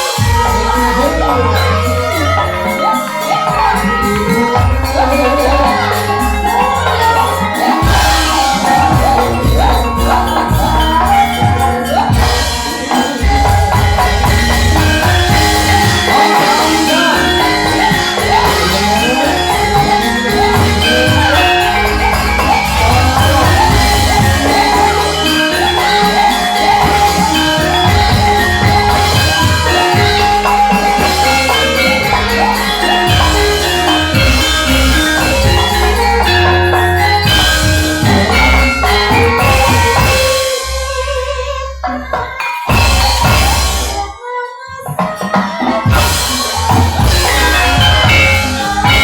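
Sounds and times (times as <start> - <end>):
steady drum beat: 0.0 - 41.1, 42.7 - 44.1, 45.1 - 49.0
metallophones ringing a melody: 0.0 - 49.0.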